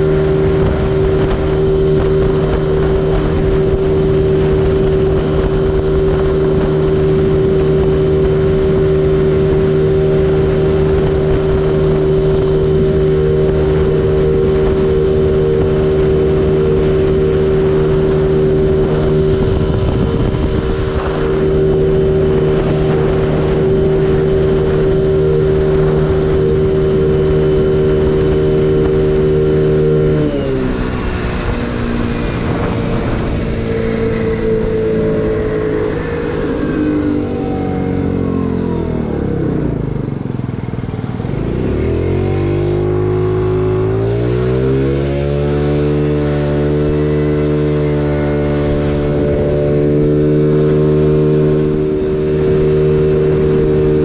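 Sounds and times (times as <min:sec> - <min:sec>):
scooter engine running flat out: 0:00.0 - 0:54.0.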